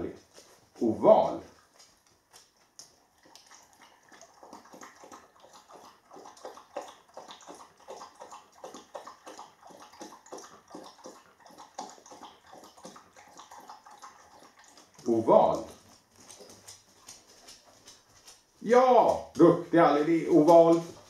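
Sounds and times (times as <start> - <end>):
faint rhythmic dog sounds: 0.0 - 21.0.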